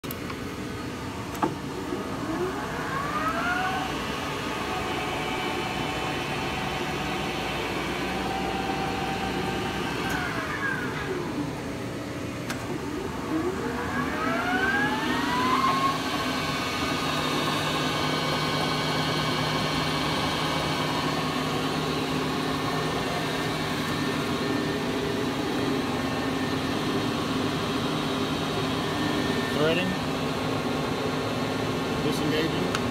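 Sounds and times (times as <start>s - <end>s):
lathe spindle whine: 1.6s - 32.9s.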